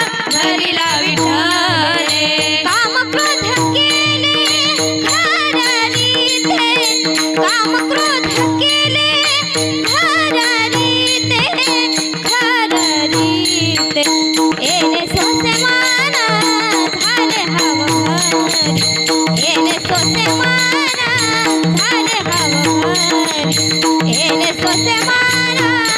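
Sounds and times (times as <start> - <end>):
hand cymbals: 0.0 - 25.9
hand drum beat: 0.0 - 25.9
harmonium drone: 0.0 - 25.9
woman singing ornamented melody: 0.0 - 25.9.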